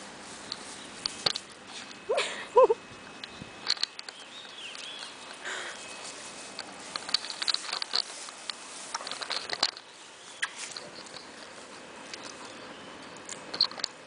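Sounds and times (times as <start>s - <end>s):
rustles and clicks on grass: 0.0s - 14.0s.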